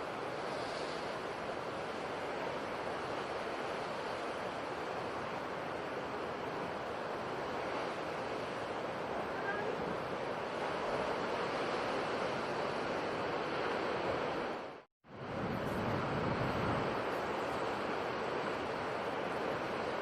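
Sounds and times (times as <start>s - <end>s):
sea surf washing: 0.0s - 20.0s.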